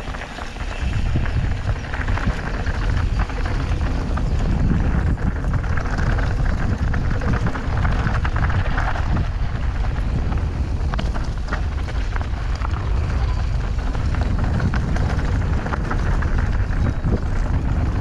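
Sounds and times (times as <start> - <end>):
bike clicks and rattles: 0.0 - 18.0
tyres on gravel: 0.0 - 18.0
wind buffeting microphone: 0.0 - 18.0.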